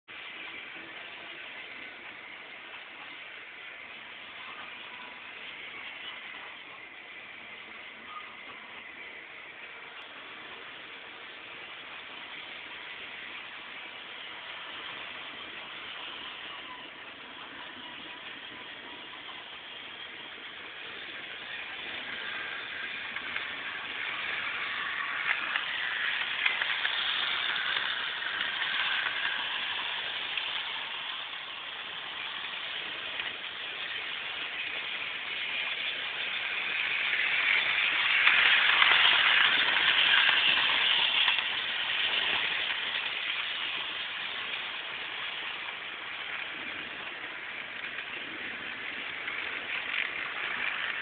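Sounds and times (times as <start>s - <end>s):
vehicles passing: 0.1s - 51.0s.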